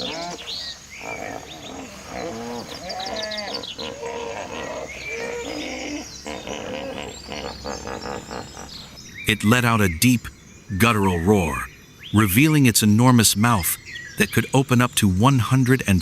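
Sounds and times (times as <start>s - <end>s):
natural ambience: 0.0s - 16.0s.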